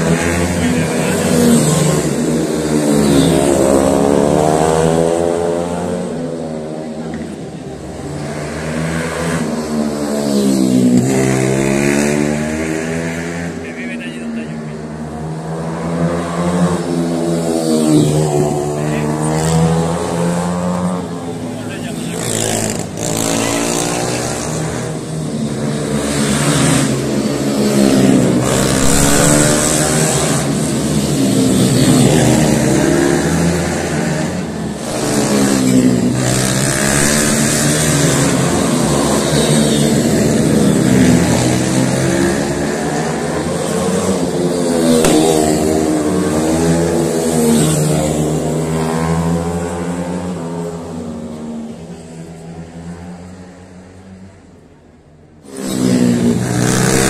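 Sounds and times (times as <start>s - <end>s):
racing motorcycles passing: 0.0s - 57.0s.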